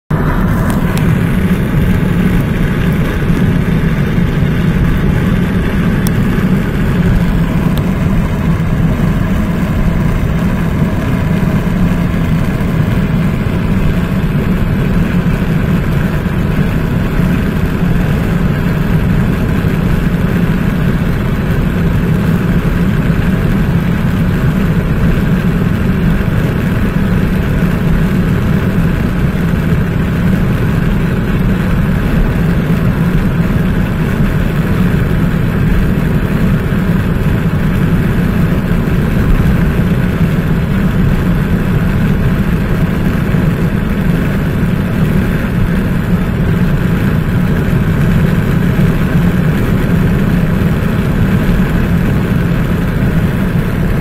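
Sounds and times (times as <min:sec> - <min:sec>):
car cabin highway drone: 0:00.0 - 0:54.0.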